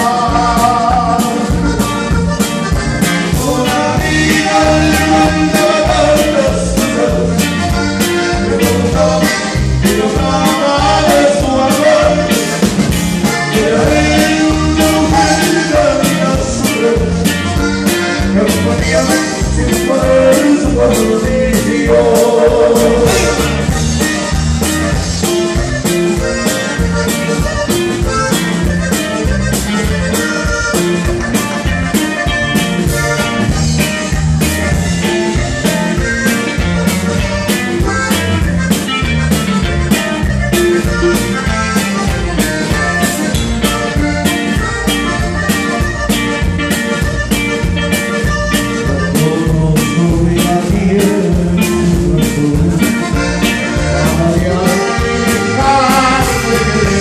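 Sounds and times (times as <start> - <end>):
accordion melody: 0.0 - 57.0
drum kit beat: 0.0 - 57.0
guitar: 0.0 - 57.0.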